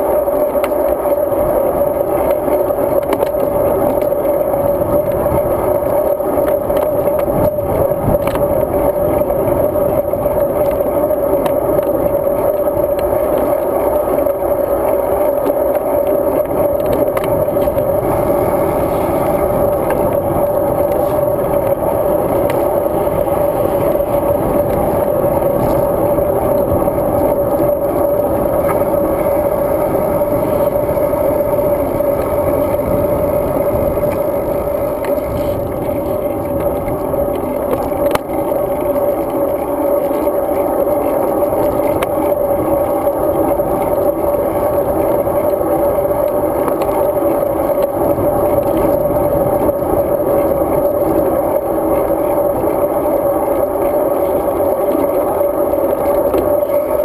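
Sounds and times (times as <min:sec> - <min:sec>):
road bike riding noise: 0:00.0 - 0:57.0
wind: 0:00.0 - 0:57.0.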